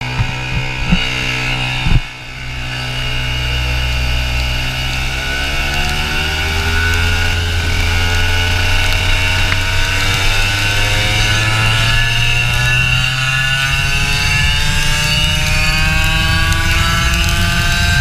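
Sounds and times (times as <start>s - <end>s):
go-kart engine revving: 0.0s - 18.0s.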